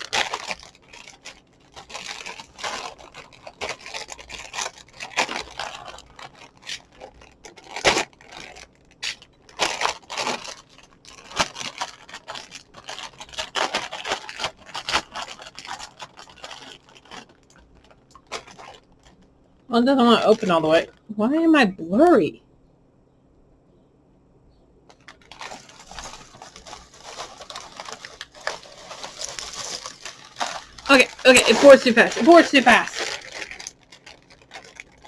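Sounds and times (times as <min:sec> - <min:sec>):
plastic bag crinkling and tearing: 0:00.0 - 0:21.0, 0:24.9 - 0:35.0.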